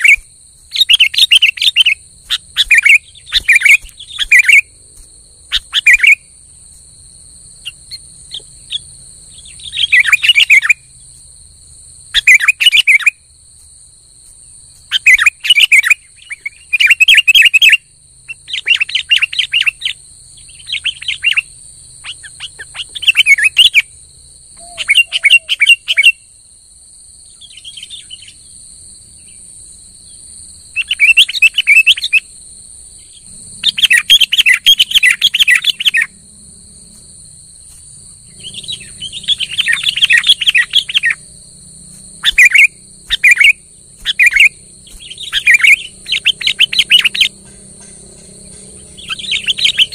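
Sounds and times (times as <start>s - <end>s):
bulbul singing: 0.0s - 11.4s, 12.0s - 13.3s, 14.2s - 26.3s, 27.3s - 28.6s, 30.1s - 49.9s.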